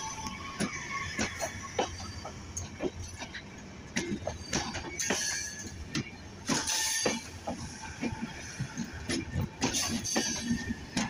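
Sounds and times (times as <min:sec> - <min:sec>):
train coaches rumbling past: 0:00.0 - 0:11.0.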